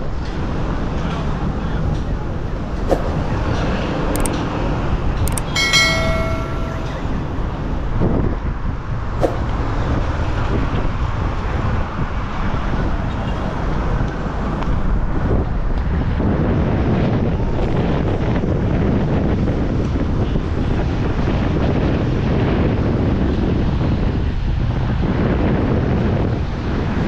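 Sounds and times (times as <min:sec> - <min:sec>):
strong wind buffeting microphone: 0:00.0 - 0:27.0.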